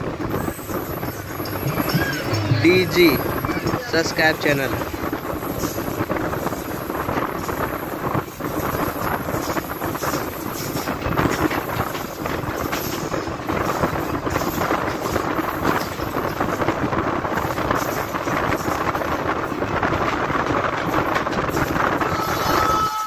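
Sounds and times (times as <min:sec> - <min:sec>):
train wheels rumbling on track: 0:00.0 - 0:23.0
wind on microphone: 0:00.0 - 0:23.0.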